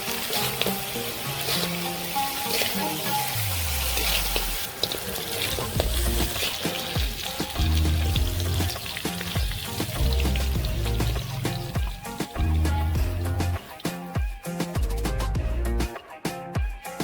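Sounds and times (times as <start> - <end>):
background music with low bass: 0.0 - 4.7, 5.7 - 17.0
cooking hiss: 0.0 - 15.0.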